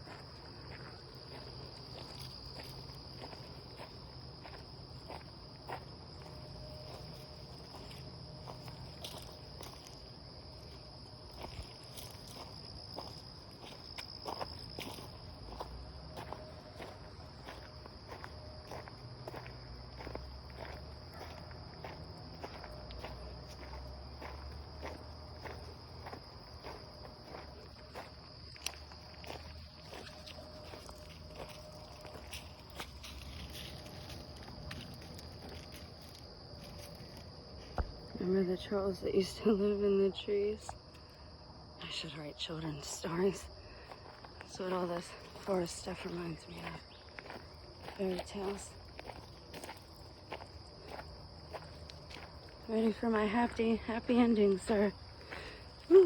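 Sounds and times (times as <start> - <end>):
footsteps on woodland trail: 0.0 - 56.0
high-pitched insect chorus: 0.0 - 56.0.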